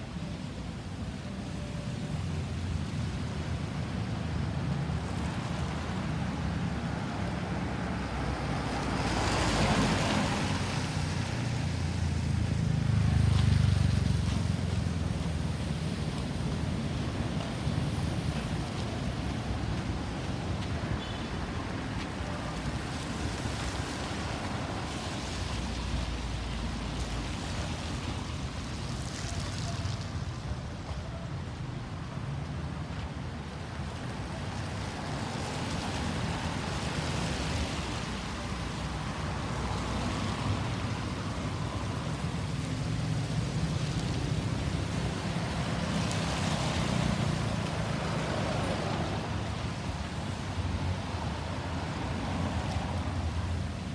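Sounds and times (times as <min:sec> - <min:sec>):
road traffic rumble: 0:00.0 - 0:53.9
vehicles passing: 0:00.0 - 0:53.9.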